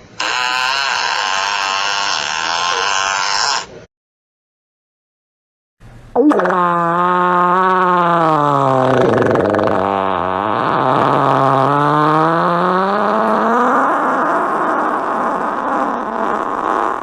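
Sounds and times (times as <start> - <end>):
long buzzing fart: 0.2 - 3.8, 6.2 - 17.0.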